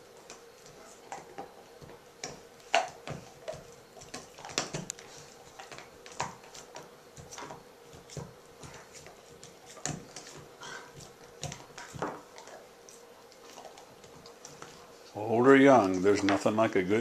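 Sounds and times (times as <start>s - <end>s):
dogs gnawing on bones: 0.0s - 16.5s.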